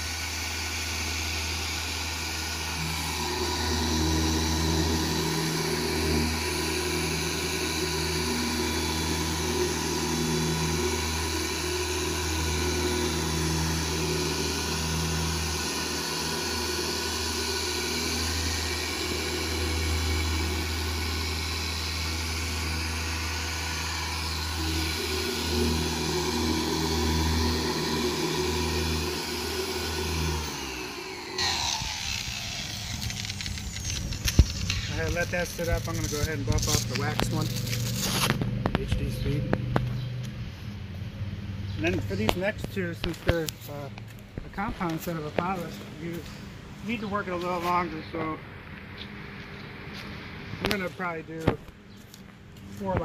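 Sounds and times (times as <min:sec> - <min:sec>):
car polisher motor hum: 0:00.0 - 0:53.0.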